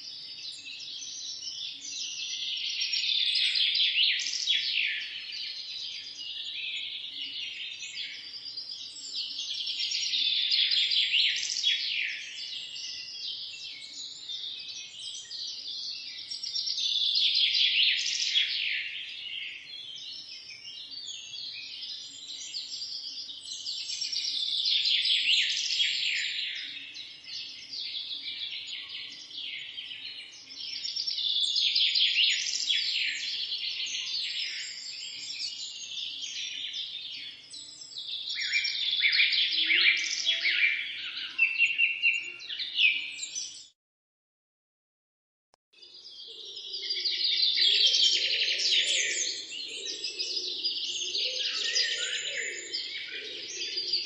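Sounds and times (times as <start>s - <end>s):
birds chirping and trilling: 0.1s - 43.8s, 45.8s - 54.0s.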